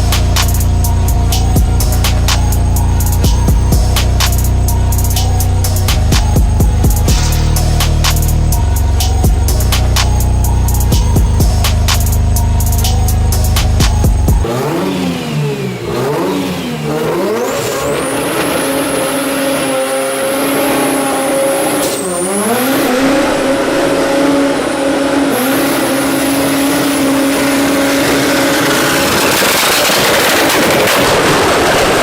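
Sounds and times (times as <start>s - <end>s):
rotary engine revving: 0.0s - 32.0s.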